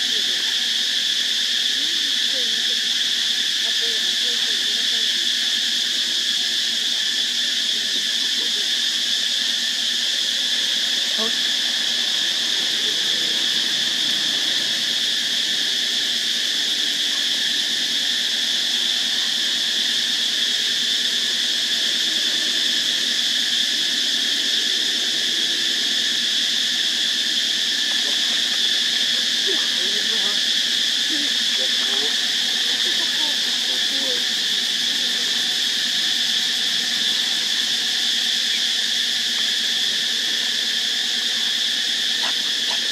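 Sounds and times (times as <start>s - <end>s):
high insect drone: 0.0s - 42.9s.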